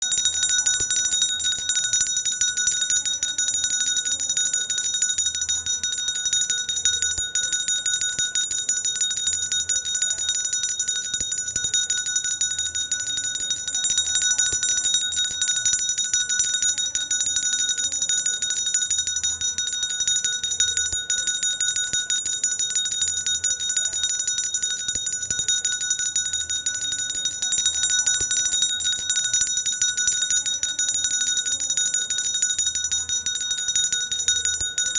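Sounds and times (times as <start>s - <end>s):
hand bell ringing rapidly: 0.0s - 34.9s.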